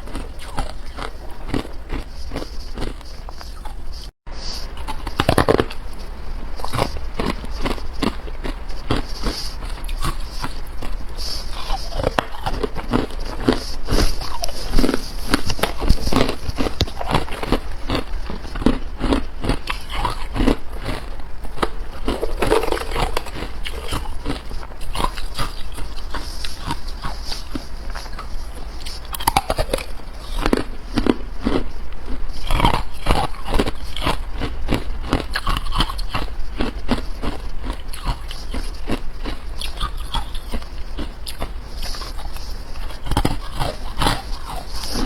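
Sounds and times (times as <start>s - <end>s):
person crunching ice: 0.0s - 4.0s, 6.6s - 45.0s.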